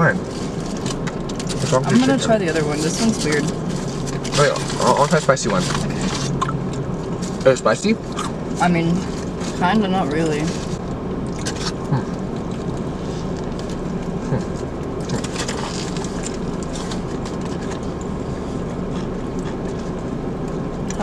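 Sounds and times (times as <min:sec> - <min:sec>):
car idling hum: 0:00.0 - 0:21.0.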